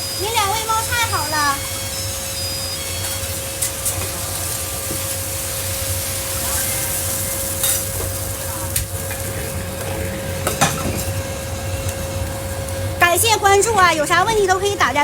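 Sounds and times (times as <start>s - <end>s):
food sizzling in a wok: 0.0s - 15.0s
steady hum: 0.0s - 15.0s.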